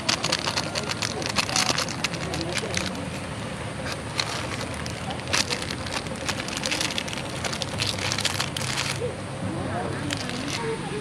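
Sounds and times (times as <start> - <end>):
plastic packet crackling: 0.0 - 3.1, 3.8 - 9.1, 10.0 - 10.7.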